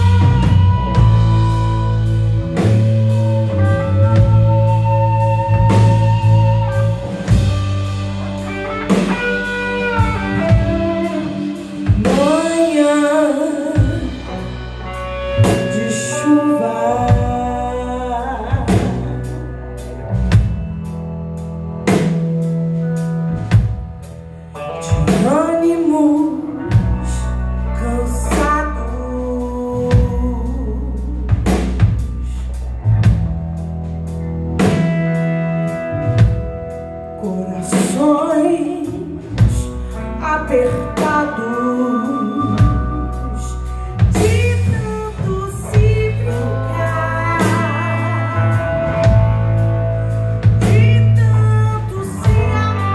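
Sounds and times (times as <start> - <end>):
woman singing: 0.0 - 19.9, 24.6 - 32.6, 37.2 - 52.9
drum kit: 0.0 - 52.9
electric bass: 0.0 - 52.9
electric guitars: 0.0 - 52.9.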